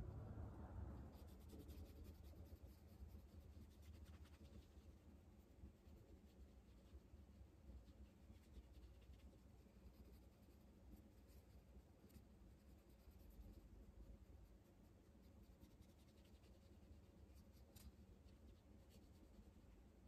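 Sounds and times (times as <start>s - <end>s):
brush scratching on paper: 1.0s - 19.8s.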